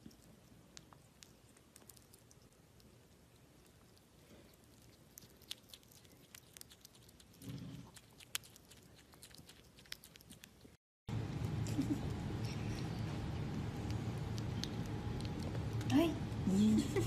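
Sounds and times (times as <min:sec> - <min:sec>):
small animal chewing food: 0:00.0 - 0:16.5.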